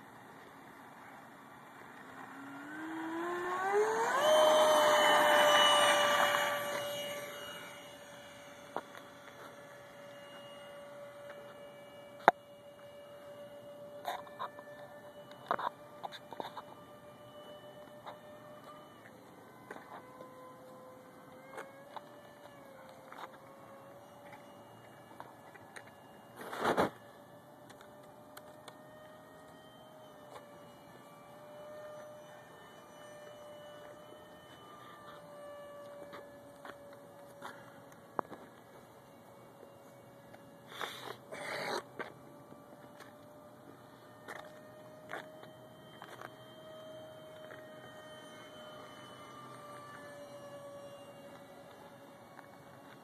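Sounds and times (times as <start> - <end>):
model jet motor whining: 0.0 - 53.0.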